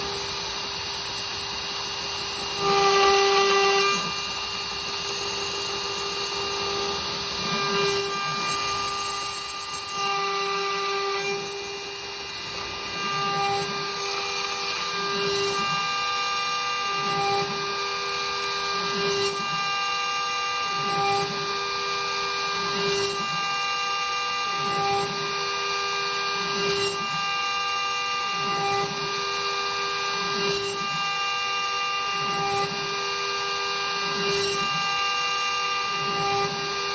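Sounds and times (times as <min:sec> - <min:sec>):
router spindle milling metal: 0:00.0 - 0:36.9.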